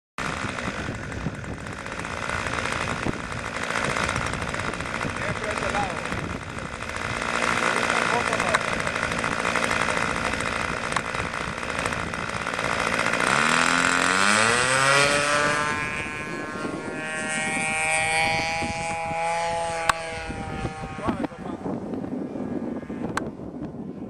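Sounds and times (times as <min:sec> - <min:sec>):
model airplane engine: 0:00.2 - 0:24.0.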